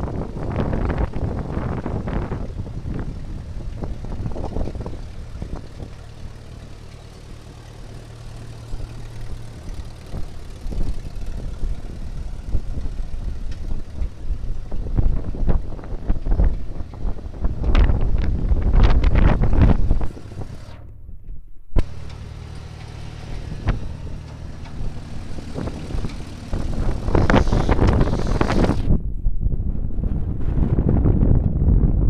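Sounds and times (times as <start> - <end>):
tractor engine idling: 0.0 - 21.0, 21.8 - 28.9
wind buffeting microphone: 0.0 - 32.0.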